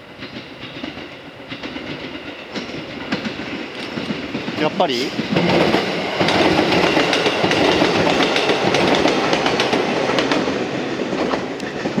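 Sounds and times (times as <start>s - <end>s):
train running noise: 0.0s - 12.0s
train wheels clacking over rail joints: 0.0s - 12.0s.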